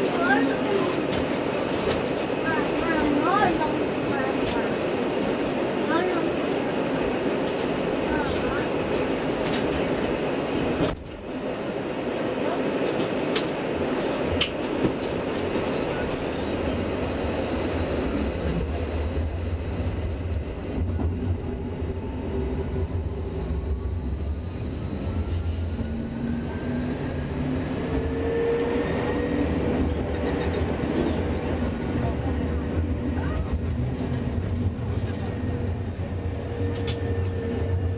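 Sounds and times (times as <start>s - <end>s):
tram wheels rumbling on rail: 0.0s - 37.9s.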